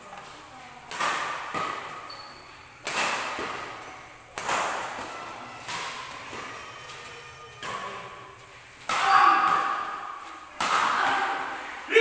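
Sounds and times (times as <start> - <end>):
badminton racket hitting shuttlecock: 0.9 - 11.6.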